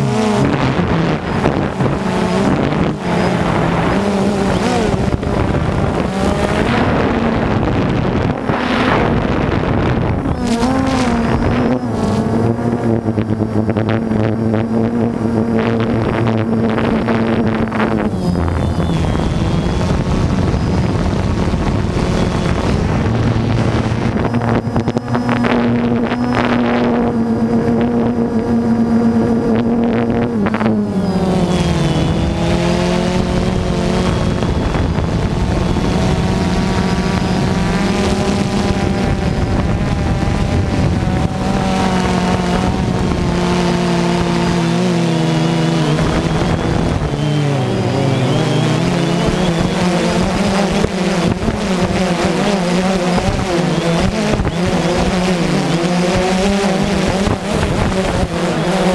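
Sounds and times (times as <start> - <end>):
drone motors and propellers droning: 0.0 - 58.9.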